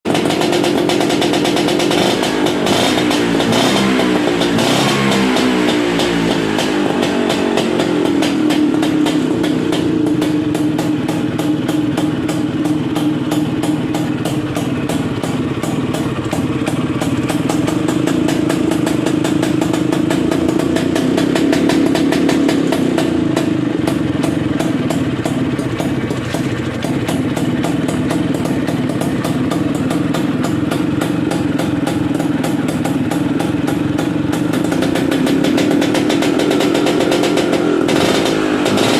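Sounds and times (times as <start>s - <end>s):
scooter engine revving: 0.1s - 38.9s.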